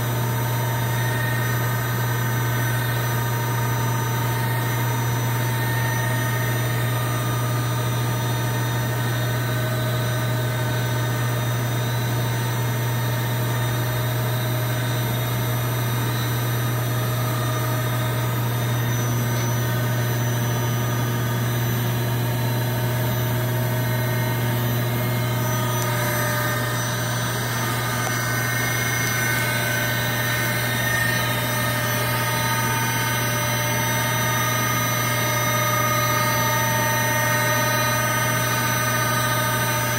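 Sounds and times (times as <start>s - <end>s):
machine low hum: 0.0s - 39.9s
machine whining tones: 0.0s - 39.9s.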